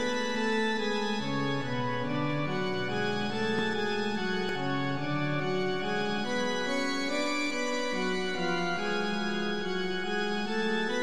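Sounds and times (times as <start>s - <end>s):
slow organ-like keyboard chords: 0.0s - 11.0s.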